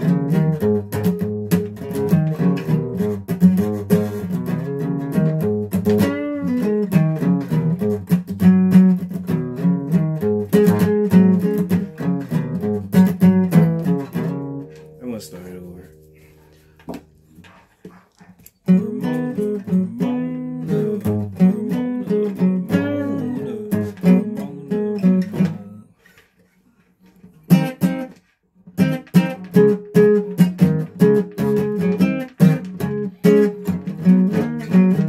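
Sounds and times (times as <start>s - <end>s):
guitar playing: 0.0s - 17.4s, 18.6s - 26.2s, 27.2s - 35.0s.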